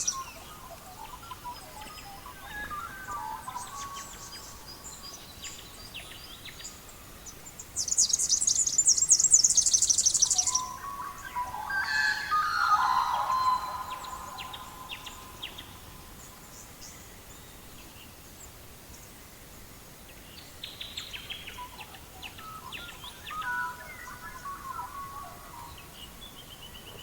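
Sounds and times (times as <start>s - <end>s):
songbirds chirping and singing: 0.0s - 16.8s, 20.6s - 27.0s.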